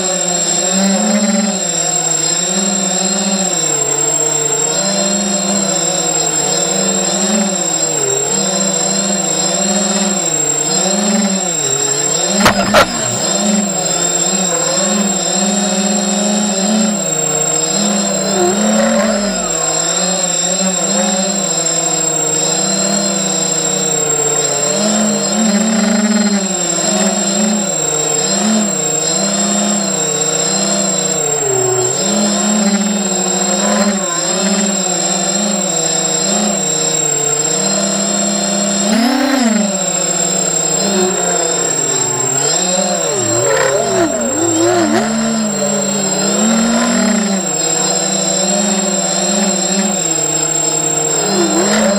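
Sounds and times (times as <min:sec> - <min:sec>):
quadcopter motors buzzing: 0:00.0 - 0:51.9.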